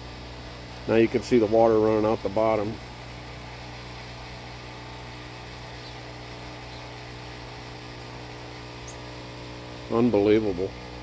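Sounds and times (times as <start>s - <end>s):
heat pump humming: 0.0s - 11.0s.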